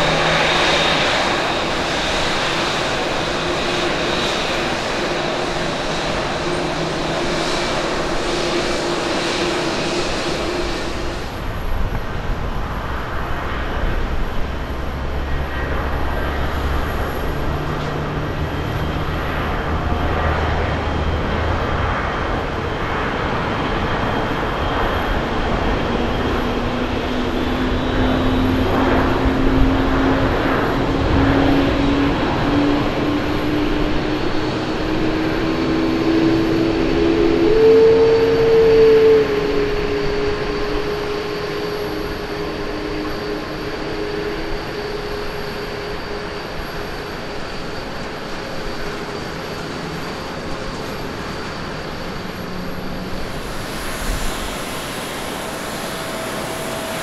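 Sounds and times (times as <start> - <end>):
jet engines at takeoff thrust: 0.0 - 57.0
jet roar of landing airliner: 0.0 - 57.0.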